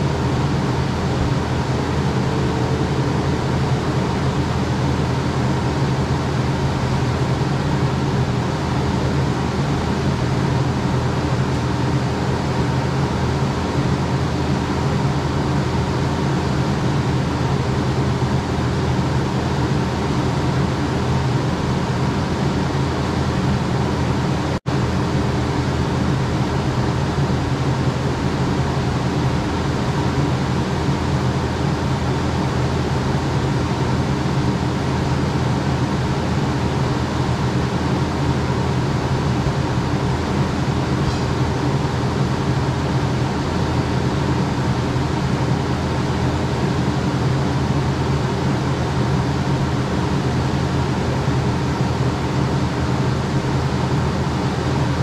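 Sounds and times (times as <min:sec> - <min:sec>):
diesel engine and hydraulics droning: 0:00.0 - 0:55.0.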